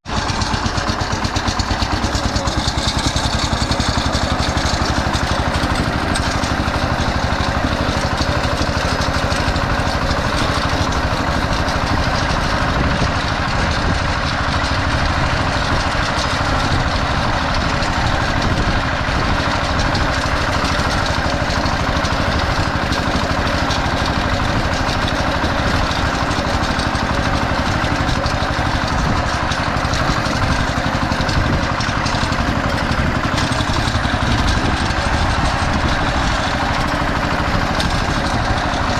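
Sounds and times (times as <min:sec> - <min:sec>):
diesel tractor engine chugging: 0:00.0 - 0:38.9.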